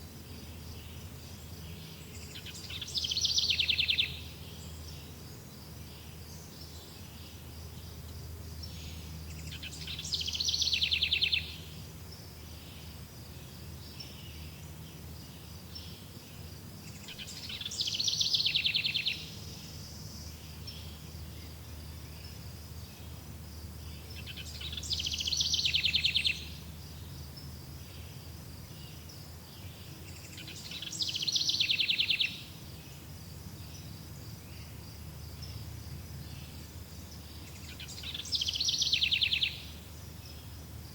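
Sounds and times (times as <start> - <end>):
faint insect chirring: 0.0 - 40.9
songbird trilled song: 0.2 - 40.9.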